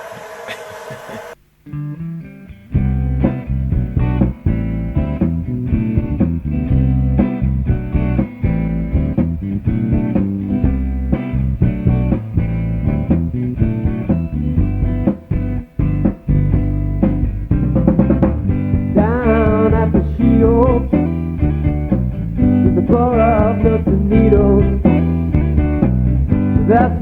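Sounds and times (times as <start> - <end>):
bass guitar: 1.5 - 27.0
plucked guitars: 1.6 - 27.0.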